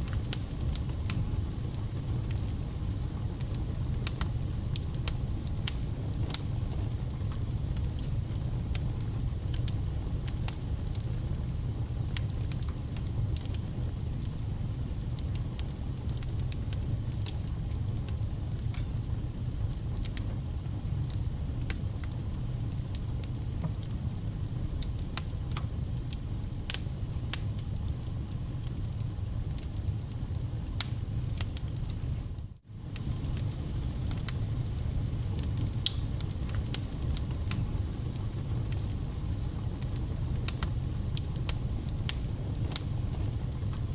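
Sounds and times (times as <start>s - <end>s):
low rumble of flames: 0.0s - 43.9s
wood fire crackling and popping: 0.0s - 43.9s.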